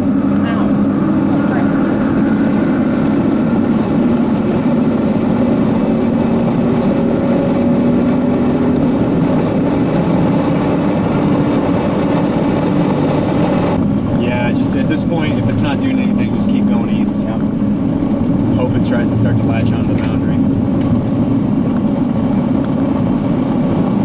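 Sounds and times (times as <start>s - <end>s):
car driving at highway speed: 0.0s - 24.0s.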